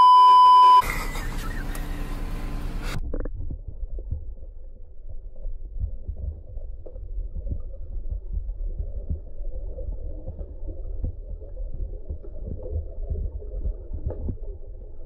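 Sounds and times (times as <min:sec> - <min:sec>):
underwater rumble of moving water: 0:00.8 - 0:15.0.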